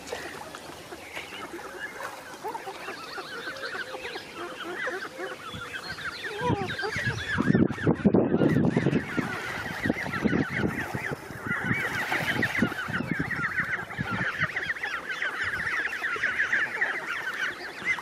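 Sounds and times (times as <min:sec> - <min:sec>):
geese honking: 0:00.0 - 0:18.0
goslings peeping: 0:00.0 - 0:18.0.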